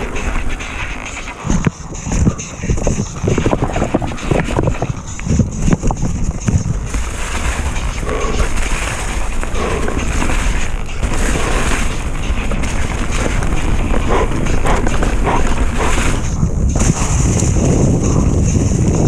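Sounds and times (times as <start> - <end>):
knocks and rattles: 0.0 - 19.0
steady rolling rumble: 0.0 - 19.0
wind buffeting microphone: 0.0 - 19.0.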